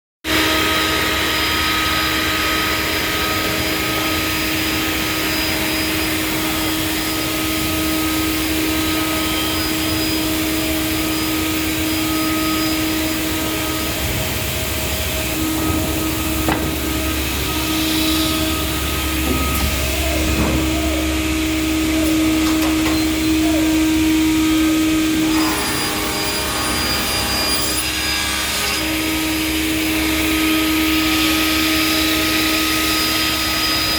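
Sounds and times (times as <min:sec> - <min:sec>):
wood router spindle whine: 0:00.3 - 0:33.9.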